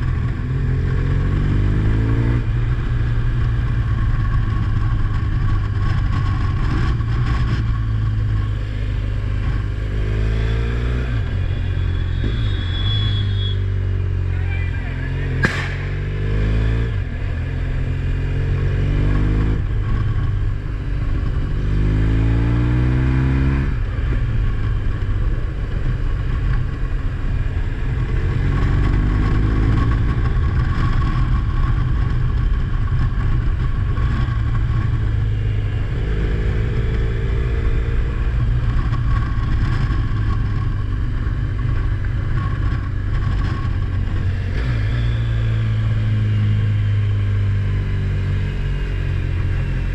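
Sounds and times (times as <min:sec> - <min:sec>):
road drone: 0:00.0 - 0:49.9
vehicle engine accelerating: 0:00.0 - 0:49.9.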